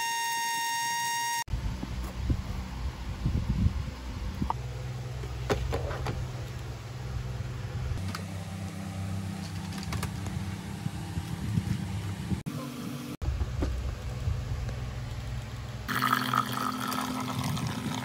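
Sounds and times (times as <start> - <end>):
steady low hum: 1.5 - 18.0.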